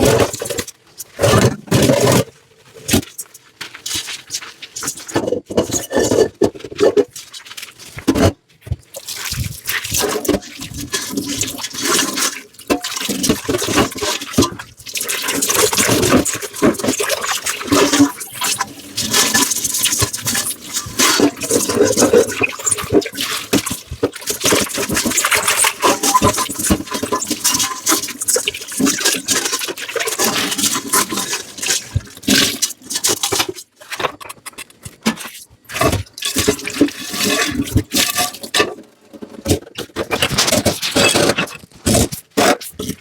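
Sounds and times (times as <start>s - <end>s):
scrubbing dishes: 7.9s - 43.0s.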